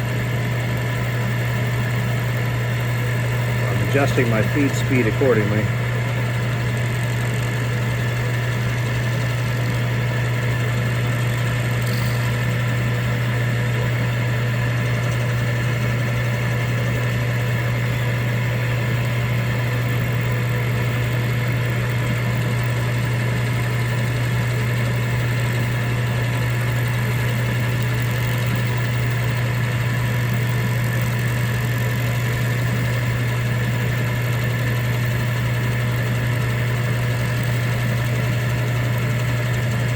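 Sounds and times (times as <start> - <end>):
drill press humming while cutting: 0.0 - 39.9.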